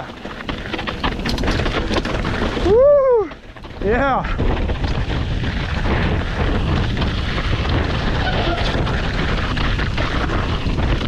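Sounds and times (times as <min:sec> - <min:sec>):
bike knocks and rattles: 0:00.0 - 0:11.0
tyres rolling over rocky dirt: 0:00.0 - 0:11.0
wind on microphone: 0:00.0 - 0:11.0.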